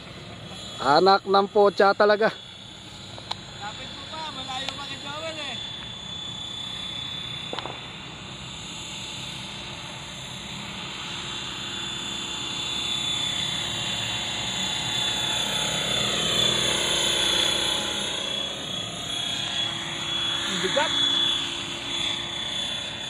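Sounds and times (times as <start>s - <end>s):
model helicopter whine: 0.0s - 23.0s.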